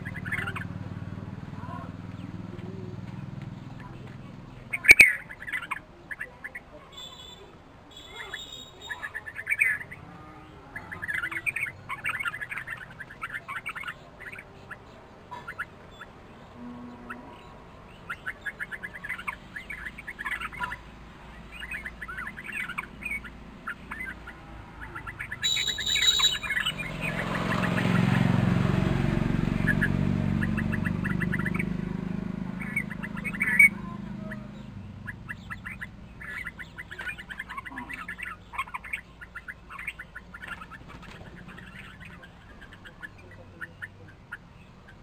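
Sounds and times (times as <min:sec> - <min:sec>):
bulbuls chirping: 0:00.0 - 0:45.0.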